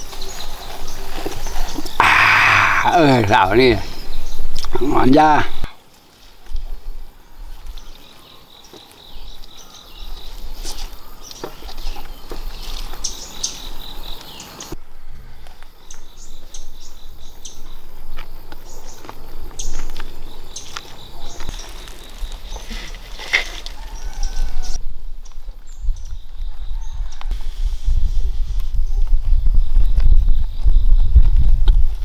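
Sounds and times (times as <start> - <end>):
insects droning: 0.1 - 27.6.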